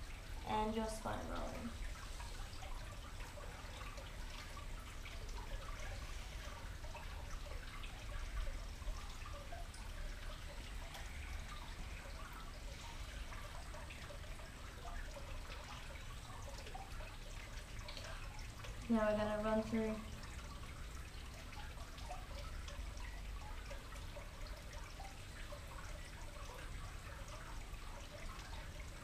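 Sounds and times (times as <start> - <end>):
low steady rumble: 0.0 - 29.0
water feature trickling: 0.0 - 29.0.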